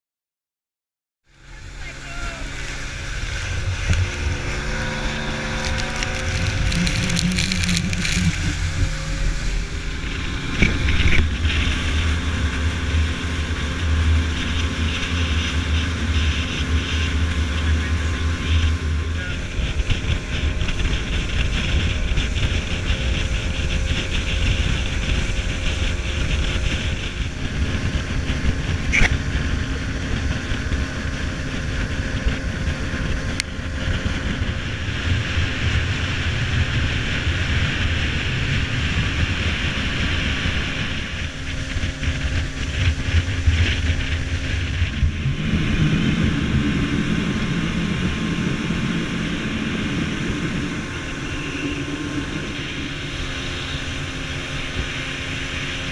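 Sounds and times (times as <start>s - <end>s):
faint boat engine hum: 1.2s - 55.9s
rushing water: 1.3s - 55.9s
wind buffeting microphone: 1.3s - 55.9s.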